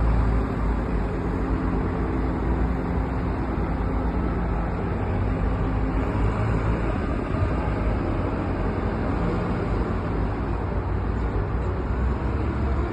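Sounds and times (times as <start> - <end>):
low rumble of vehicles: 0.0 - 12.9.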